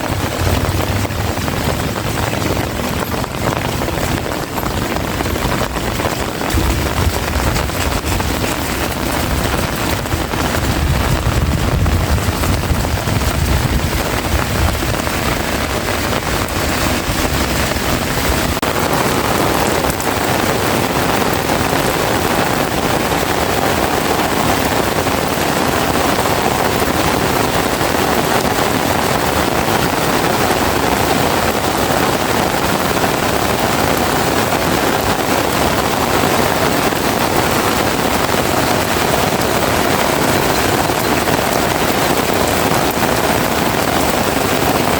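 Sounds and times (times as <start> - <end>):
heavy rain pouring: 0.0 - 44.9
wind rumbling on microphone: 0.0 - 44.9.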